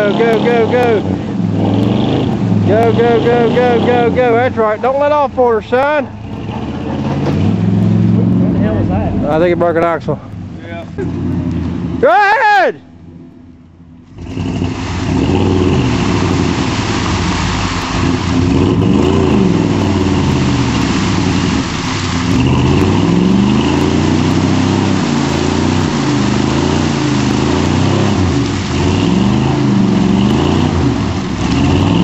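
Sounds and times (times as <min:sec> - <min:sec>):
pickup truck engine revving: 0:00.0 - 0:12.2, 0:12.9 - 0:32.0.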